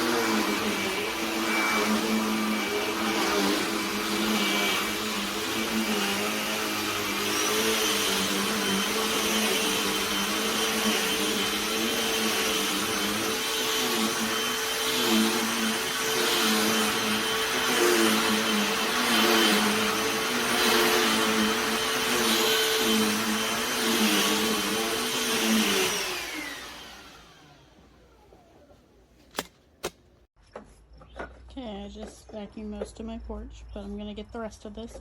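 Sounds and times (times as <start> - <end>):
handheld vacuum motor hum: 0.0 - 28.8.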